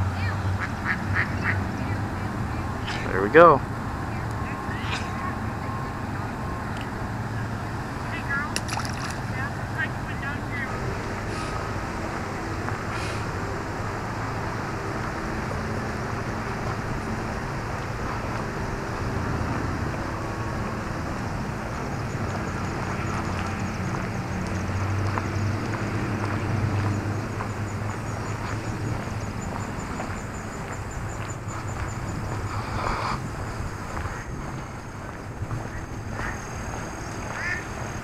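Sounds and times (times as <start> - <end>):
distant vehicle engines rumbling: 0.0 - 38.0.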